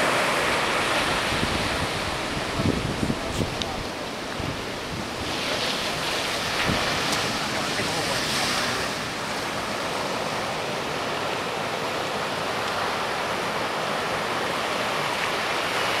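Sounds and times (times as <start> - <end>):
surf rushing water: 0.0 - 16.0.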